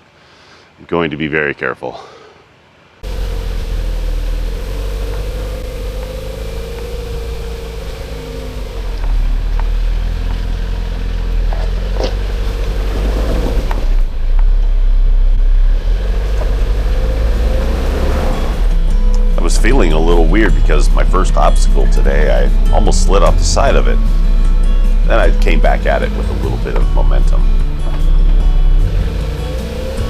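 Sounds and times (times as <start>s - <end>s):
car engine running under load: 3.0s - 30.0s.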